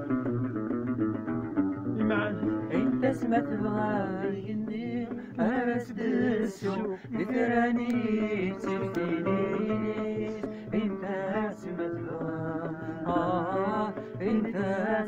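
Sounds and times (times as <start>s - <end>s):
plucked guitar: 0.0s - 15.0s
person singing: 2.0s - 15.0s.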